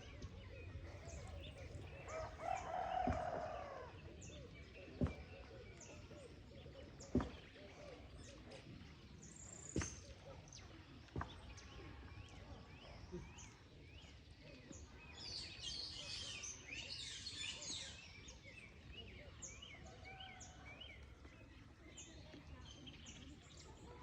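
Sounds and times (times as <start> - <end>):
outdoor background noise: 0.0 - 24.0
small birds chirping: 0.0 - 24.0.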